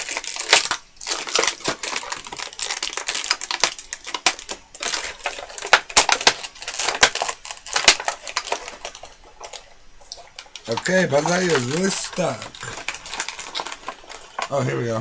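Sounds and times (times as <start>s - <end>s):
plastic packaging crackling: 0.0s - 15.0s.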